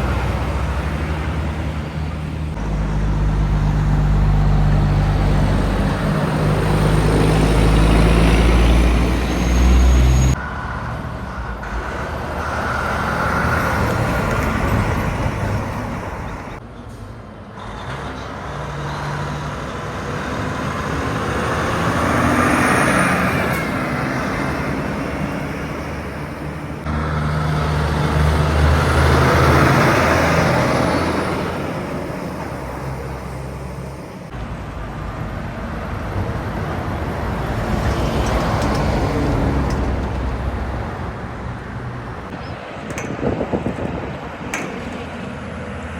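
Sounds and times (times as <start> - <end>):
highway traffic passing: 0.0 - 45.9.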